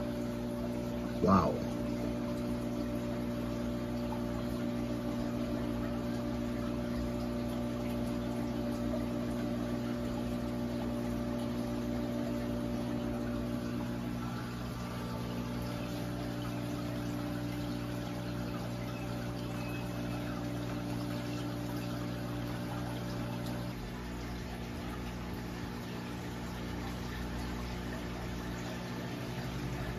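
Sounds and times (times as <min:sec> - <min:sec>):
aquarium pump humming: 0:00.0 - 0:29.9
water circulating: 0:00.0 - 0:29.9.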